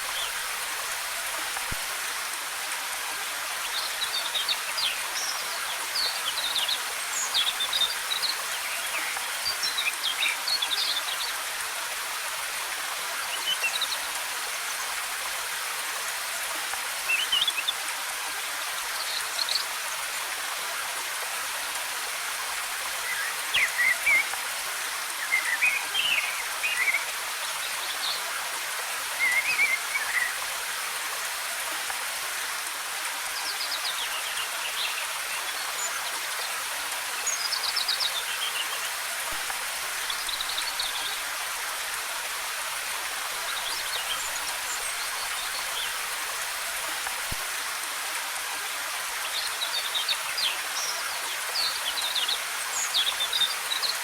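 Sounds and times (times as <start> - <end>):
falling water rushing: 0.0 - 54.0.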